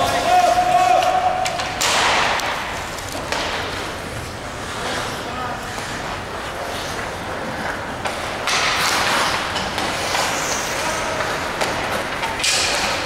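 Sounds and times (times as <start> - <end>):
hockey rink rushing noise: 0.0 - 13.0.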